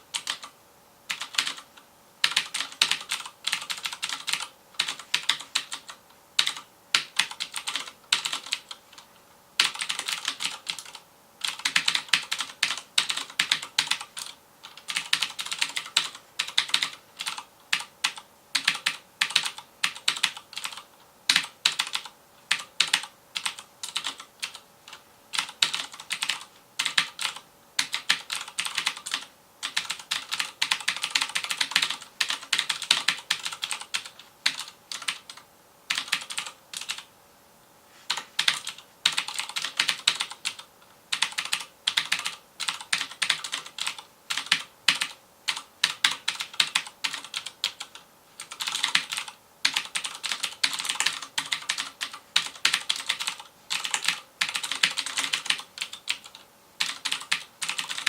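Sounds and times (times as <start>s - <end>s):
clicky mechanical keyboard typing: 0.1s - 37.1s, 38.1s - 58.0s.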